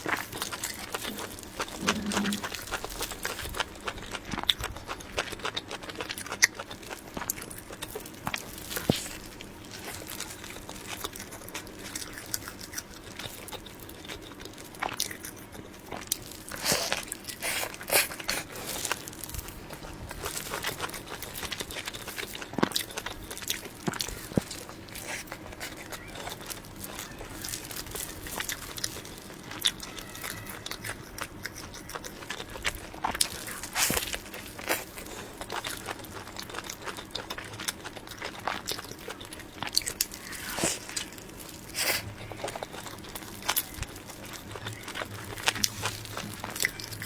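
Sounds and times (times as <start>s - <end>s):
person chewing soft cake: 0.0s - 47.0s.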